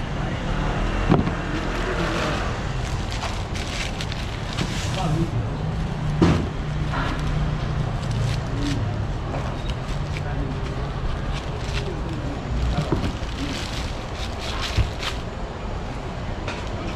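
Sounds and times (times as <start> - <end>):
background chatter: 0.0 - 16.9
steady low hum: 0.0 - 16.9.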